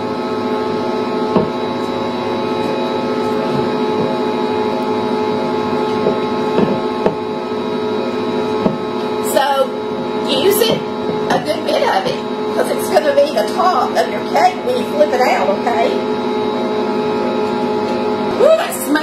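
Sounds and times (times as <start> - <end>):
electric mixer humming: 0.0 - 19.0.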